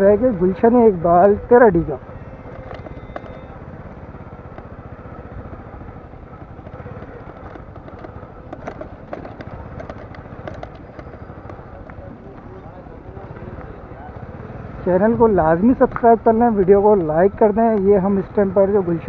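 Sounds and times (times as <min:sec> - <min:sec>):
distant motorcycle engines: 0:00.0 - 0:19.0
traffic noise: 0:00.0 - 0:19.0.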